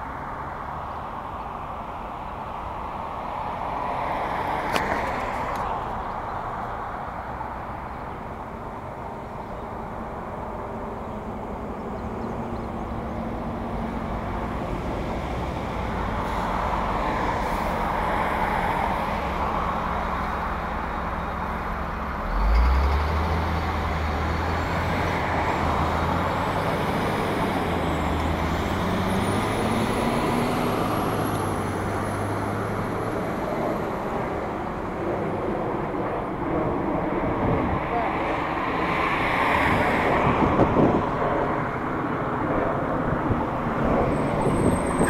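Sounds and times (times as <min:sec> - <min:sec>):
cars driving by: 0:00.0 - 0:45.0
close vehicle engine drone: 0:00.0 - 0:45.0.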